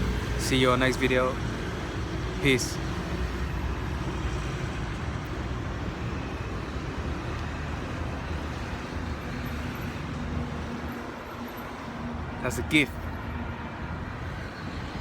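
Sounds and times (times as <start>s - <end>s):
vehicle and road rumble: 0.0s - 15.0s.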